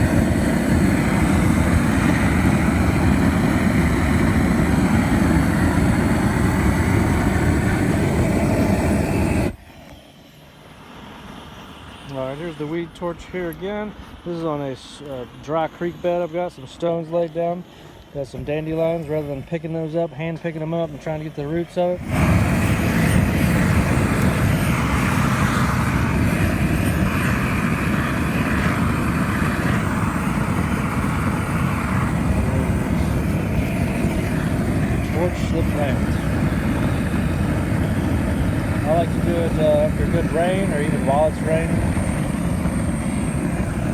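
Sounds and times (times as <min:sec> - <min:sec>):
propane torch roaring: 0:00.0 - 0:43.9.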